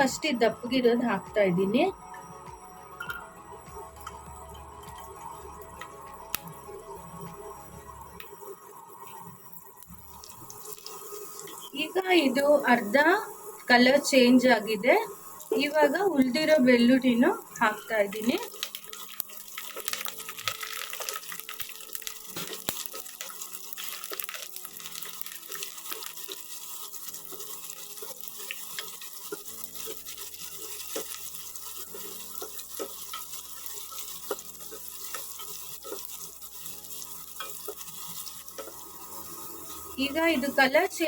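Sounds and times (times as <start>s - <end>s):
garlic sizzling in oil: 0.0s - 41.0s
crackles and pops: 3.0s - 13.7s, 15.1s - 41.0s.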